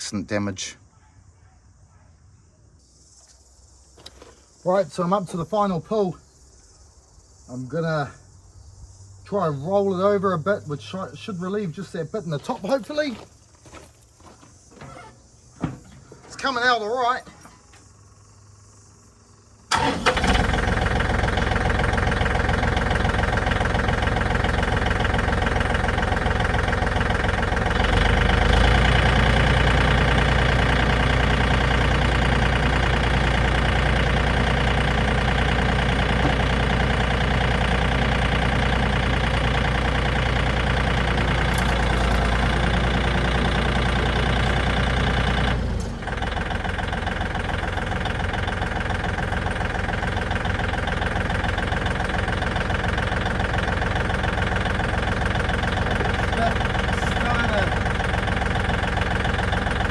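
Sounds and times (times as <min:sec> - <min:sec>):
tractor engine running: 0:08.8 - 0:18.0, 0:19.7 - 0:59.9.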